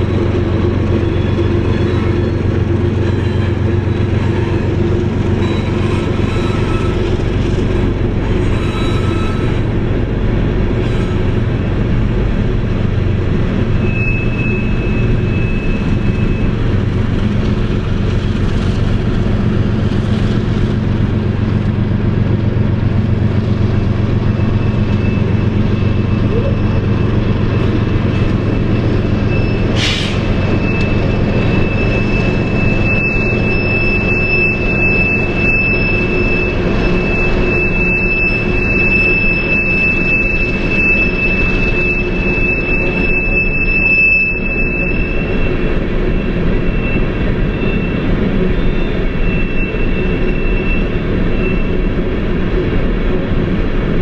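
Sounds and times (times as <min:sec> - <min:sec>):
diesel locomotive engines rumbling: 0:00.0 - 0:54.0.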